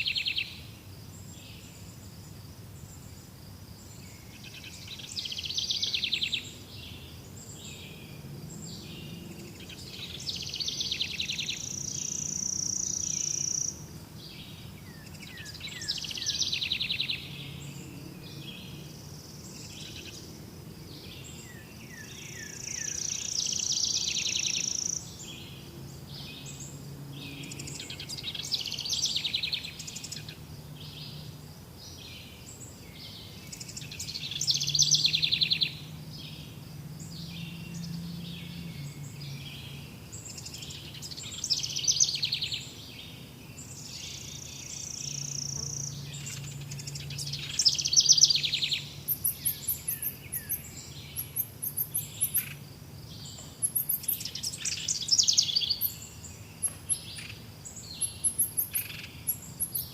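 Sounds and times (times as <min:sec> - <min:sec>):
birds chirping and trilling: 0:03.8 - 0:59.9.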